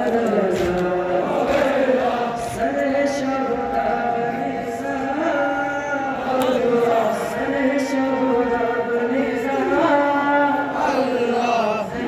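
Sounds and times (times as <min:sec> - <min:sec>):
men chanting lament: 0:00.0 - 0:12.0.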